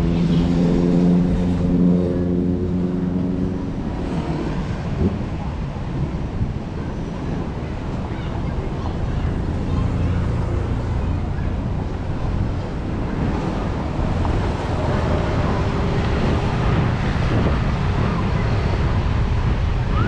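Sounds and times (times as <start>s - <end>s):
faint voices: 0.0s - 20.0s
wind buffeting microphone: 0.0s - 20.0s
surf washing: 2.4s - 20.0s.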